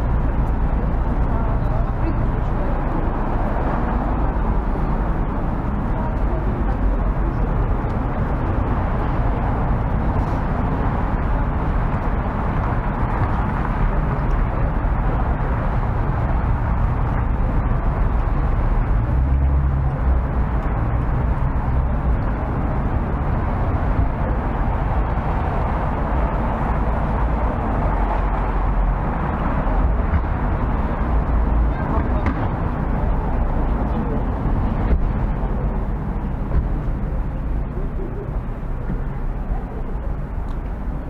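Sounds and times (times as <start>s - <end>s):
low rumble of traffic: 0.0s - 41.0s.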